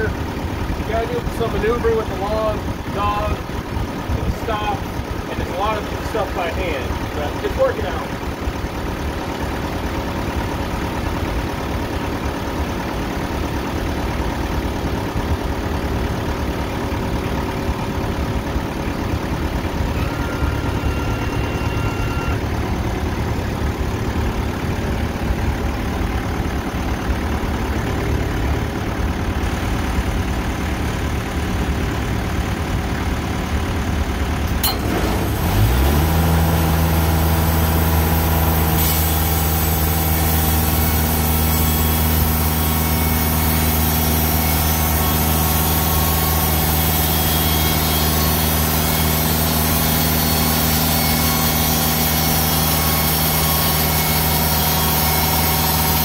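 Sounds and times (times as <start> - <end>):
sawmill engine idling and revving: 0.0 - 56.0.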